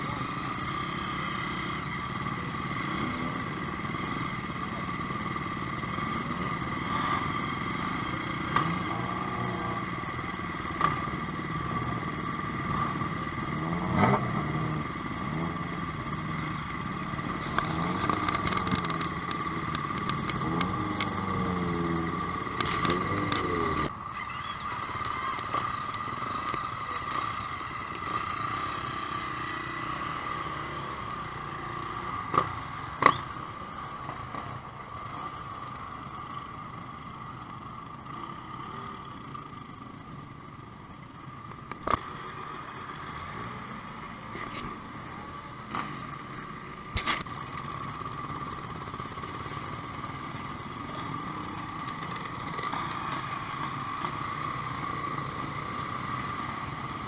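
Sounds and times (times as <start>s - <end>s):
vehicle engines passing slowly: 0.0s - 57.0s.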